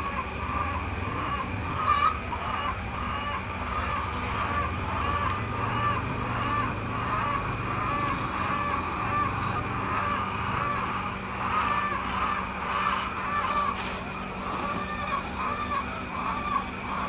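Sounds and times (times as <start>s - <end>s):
chickens calling: 0.0s - 17.0s.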